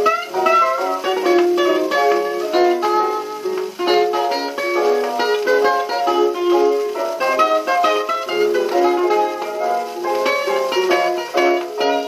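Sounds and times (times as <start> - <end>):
jazz record playing: 0.0 - 12.0
plucked guitar: 0.0 - 12.0.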